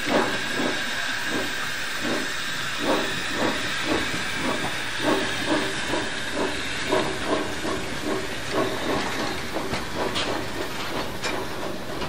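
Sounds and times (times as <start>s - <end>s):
steam locomotive hissing and chuffing: 0.0s - 12.0s.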